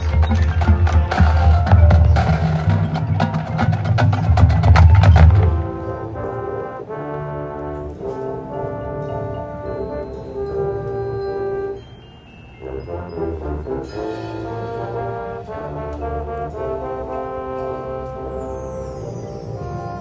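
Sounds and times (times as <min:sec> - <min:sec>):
mallet percussion: 0:00.0 - 0:06.2, 0:08.1 - 0:20.0
brass chords: 0:00.0 - 0:20.0
marching band percussion: 0:00.0 - 0:20.0.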